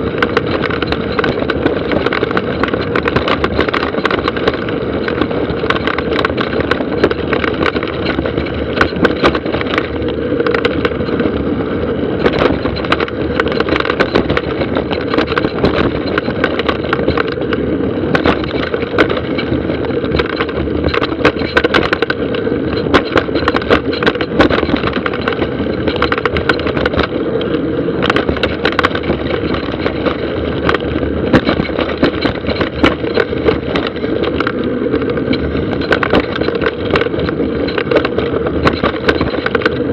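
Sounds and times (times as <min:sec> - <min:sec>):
bike rattling and knocking: 0:00.0 - 0:39.9
bike tyres rushing on dirt trail: 0:00.0 - 0:39.9.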